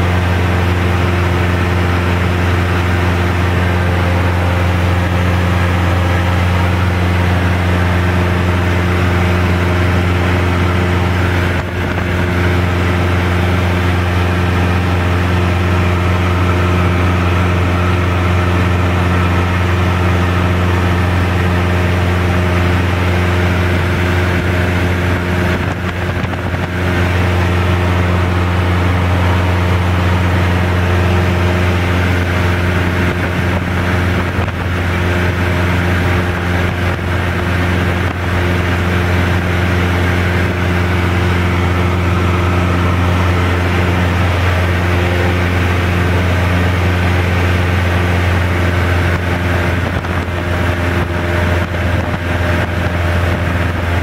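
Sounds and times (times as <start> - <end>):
propeller plane engine drone: 0.0 - 54.0.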